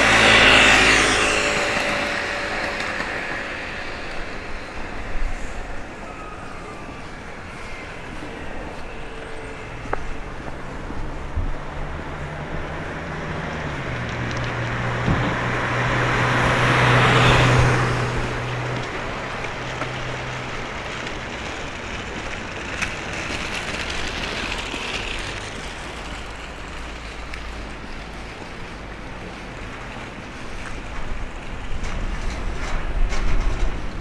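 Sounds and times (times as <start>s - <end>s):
vehicle passing close by: 0.0s - 28.7s
traffic noise: 0.0s - 34.0s.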